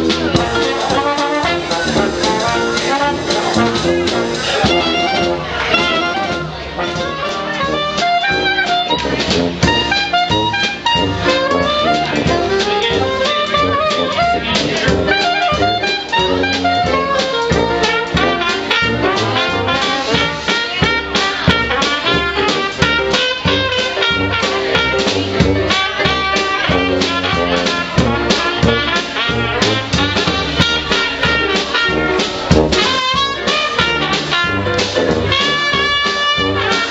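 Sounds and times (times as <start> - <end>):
drum kit: 0.0 - 36.9
reed instrument: 0.0 - 36.9
trombone: 0.0 - 36.9
trumpet: 0.0 - 36.9
tuba: 0.0 - 36.9.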